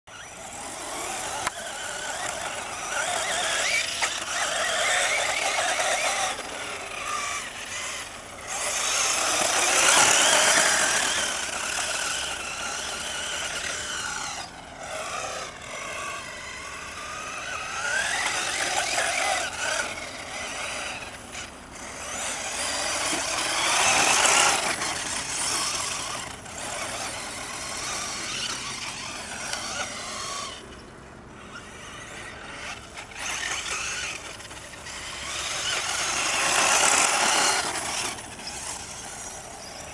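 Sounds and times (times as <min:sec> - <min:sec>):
electric motor whining: 0:00.1 - 0:39.9
tyres churning sand: 0:00.1 - 0:39.9.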